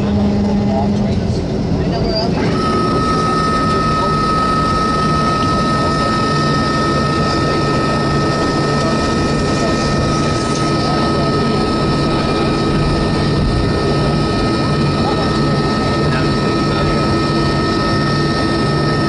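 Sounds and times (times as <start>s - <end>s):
high jet engine whine: 0.0s - 19.0s
jet engine cabin rumble: 0.0s - 19.0s.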